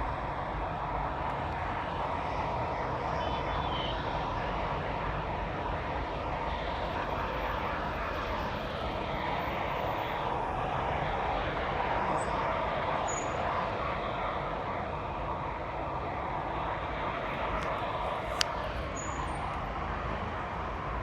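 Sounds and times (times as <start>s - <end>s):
jet aircraft rumble overhead: 0.0s - 21.0s.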